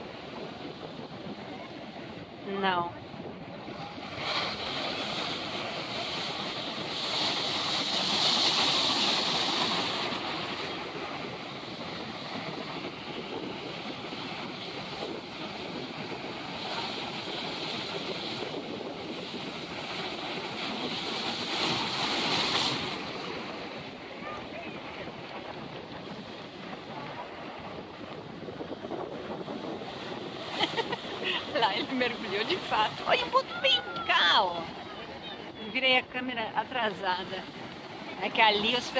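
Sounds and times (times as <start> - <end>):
surf breaking over rocks: 3.2 - 38.9.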